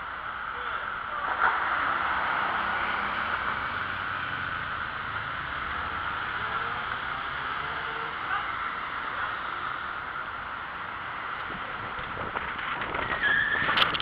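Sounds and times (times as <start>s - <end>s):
city traffic: 0.0s - 14.0s.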